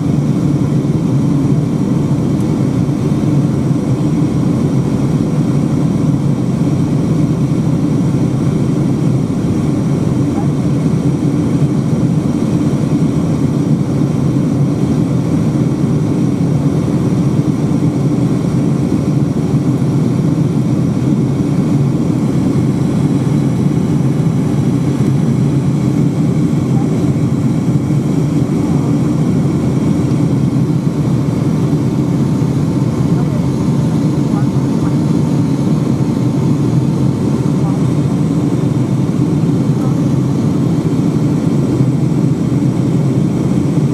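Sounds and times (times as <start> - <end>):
aircraft cabin drone: 0.0 - 43.9.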